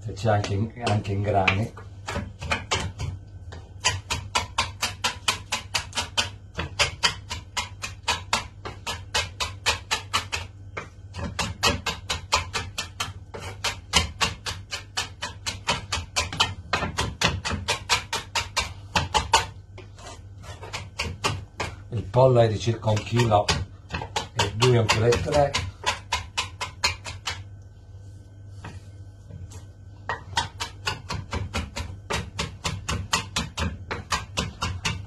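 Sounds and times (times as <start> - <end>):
knife chopping on cutting board: 0.4 - 27.5, 28.6 - 35.0.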